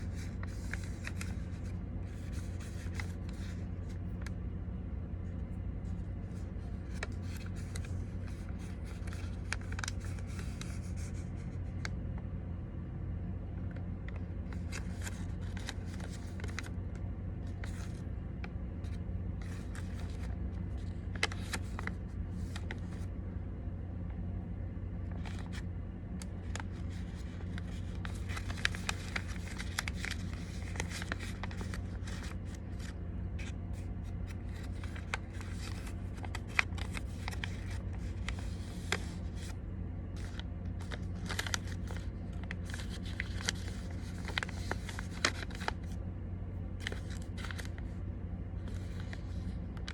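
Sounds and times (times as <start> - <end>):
paper crinkling and creasing: 0.0 - 4.5, 5.2 - 12.3, 13.5 - 23.2, 24.8 - 49.9
steady low hum: 0.0 - 49.9.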